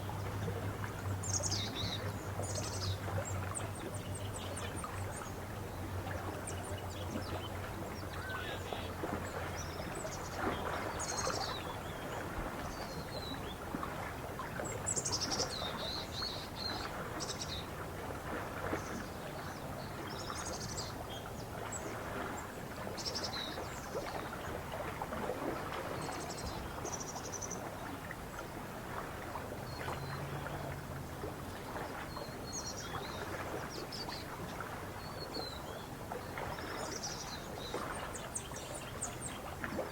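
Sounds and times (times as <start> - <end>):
lakeside ambience: 0.0 - 39.9.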